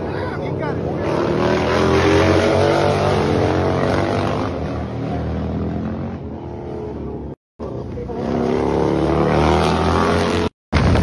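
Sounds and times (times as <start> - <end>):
motorcycle engines passing: 0.0 - 10.5.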